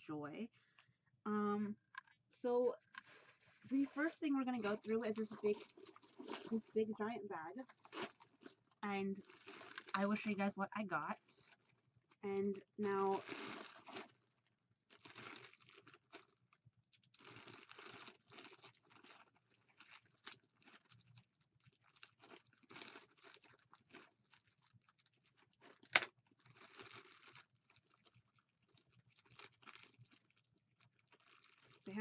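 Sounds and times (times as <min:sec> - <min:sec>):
plastic bag crinkling: 0:01.8 - 0:14.3, 0:14.9 - 0:32.0.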